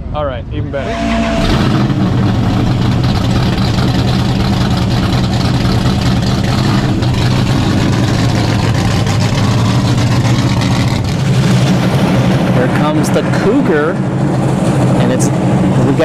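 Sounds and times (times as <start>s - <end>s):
race car engine idling: 0.0s - 16.0s.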